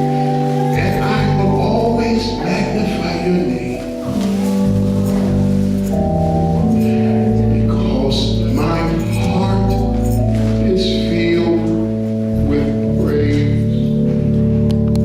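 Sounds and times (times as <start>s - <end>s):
person singing: 0.0s - 14.3s
church music held chords: 0.0s - 15.0s
steady bass line: 0.0s - 15.0s.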